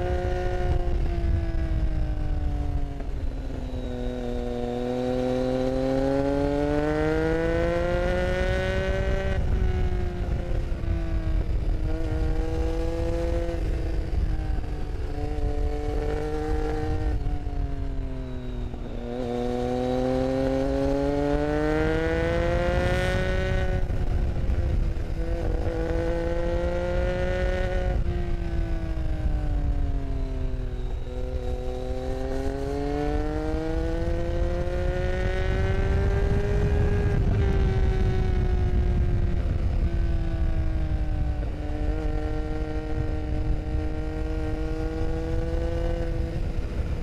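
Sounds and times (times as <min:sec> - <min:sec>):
motorcycle engine revving: 0:00.0 - 0:47.0
wind and road rumble: 0:00.0 - 0:47.0.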